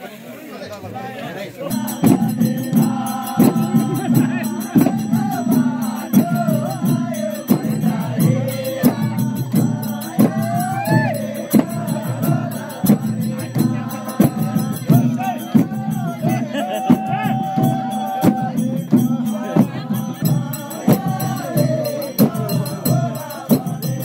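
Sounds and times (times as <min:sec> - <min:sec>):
person singing wavering melody: 0:01.7 - 0:24.0
steady drum beat: 0:01.7 - 0:24.0.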